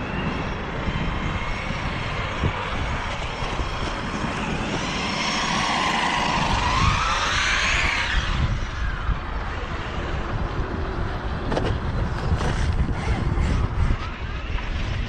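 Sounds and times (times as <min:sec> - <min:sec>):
electric motor whining: 0:00.0 - 0:15.0
wind rumble on microphone: 0:00.0 - 0:15.0.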